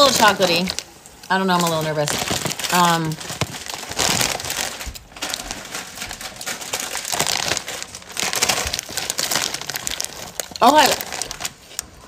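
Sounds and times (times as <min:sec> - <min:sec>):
popcorn being chewed: 0:00.0 - 0:12.0
snack bag crinkling: 0:00.0 - 0:12.0.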